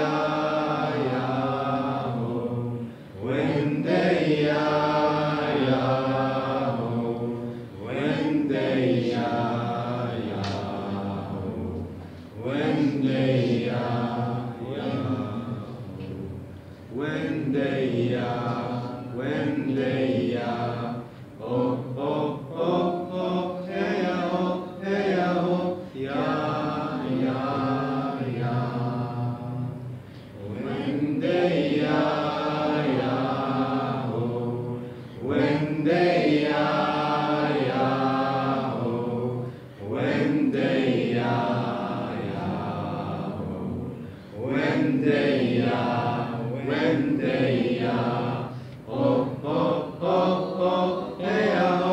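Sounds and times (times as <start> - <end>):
voices chanting: 0.0 - 51.9.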